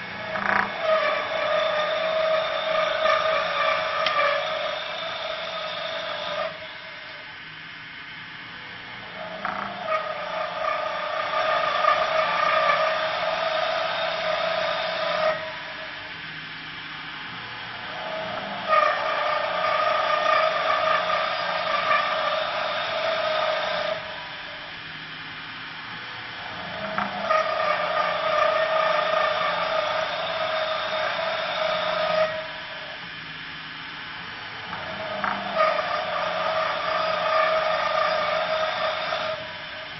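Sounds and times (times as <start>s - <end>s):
lathe tool cutting wood: 0.0s - 7.3s, 8.6s - 16.4s, 17.2s - 39.9s
lathe running: 0.0s - 39.9s.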